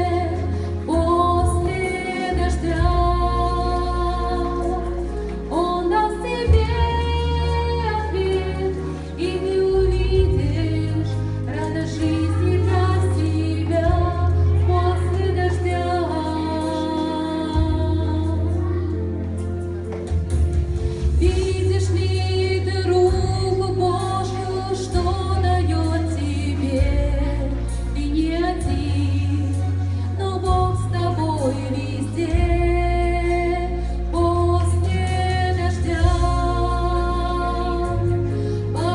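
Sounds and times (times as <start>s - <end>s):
low bass notes: 0.0s - 16.7s, 17.3s - 38.9s
woman singing slow song: 0.0s - 19.0s, 21.1s - 38.9s
instrumental accompaniment: 0.0s - 38.9s.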